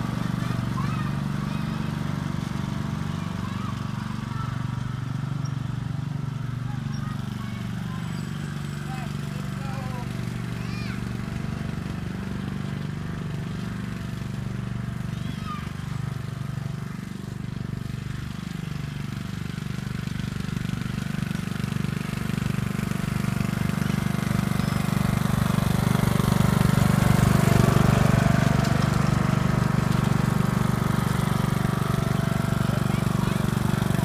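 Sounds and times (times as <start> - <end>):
riding lawnmower engine running: 0.0 - 34.0.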